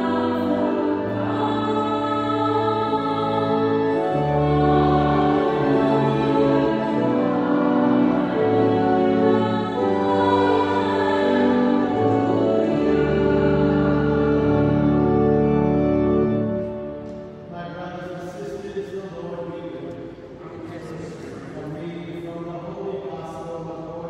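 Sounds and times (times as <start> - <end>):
church organ playing chords: 0.0 - 19.9.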